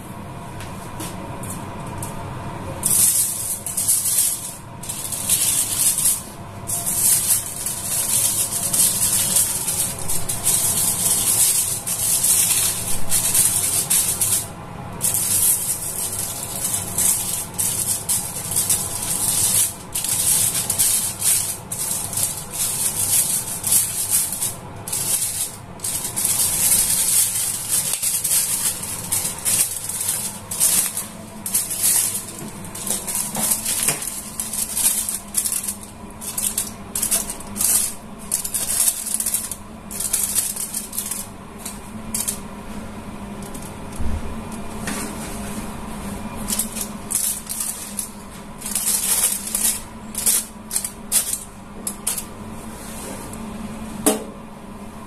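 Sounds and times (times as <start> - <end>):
aluminium foil crinkling: 2.8 - 42.4, 43.3 - 44.7, 46.3 - 52.3.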